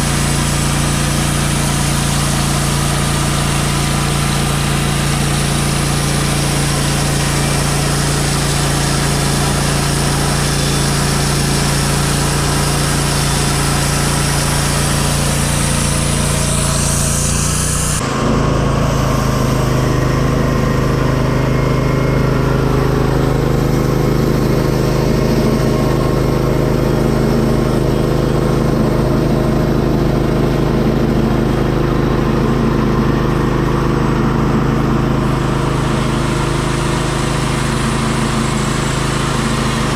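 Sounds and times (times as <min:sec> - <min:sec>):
saw cutting log: 0:00.0 - 0:39.9
sawmill engine running: 0:00.0 - 0:39.9.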